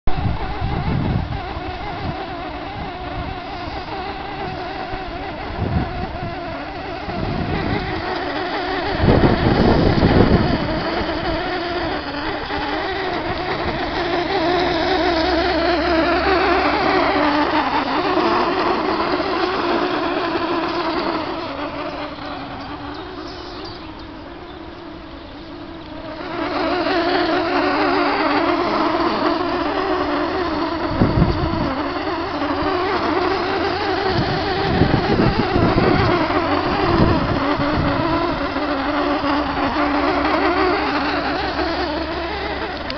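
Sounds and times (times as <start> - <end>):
creepy droning buzz: 0.0 - 42.9.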